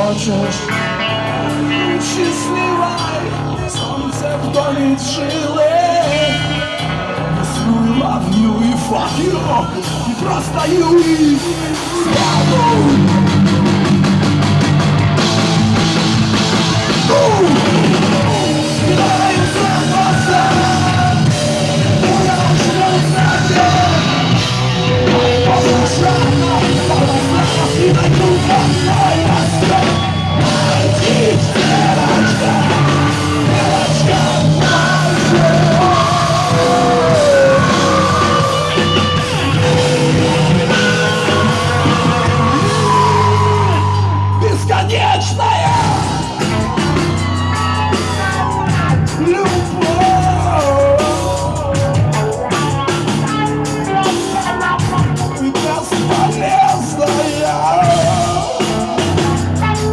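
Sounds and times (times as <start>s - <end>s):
heavy rock band playing: 0.0s - 59.9s
yelled vocals: 0.0s - 59.9s.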